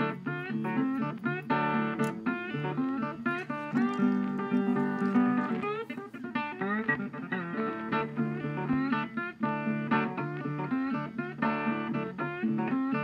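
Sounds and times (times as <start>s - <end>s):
plucked guitar melody: 0.0s - 13.0s.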